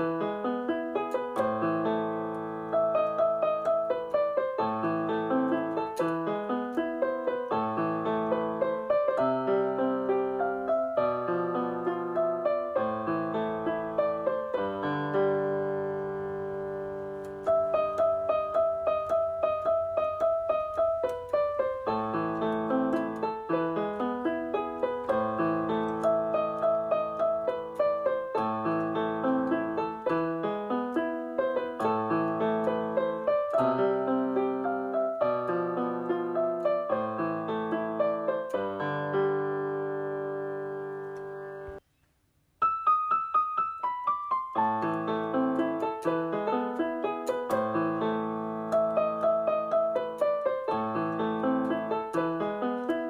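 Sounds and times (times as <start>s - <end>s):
piano music: 0.0s - 41.8s, 42.6s - 53.0s.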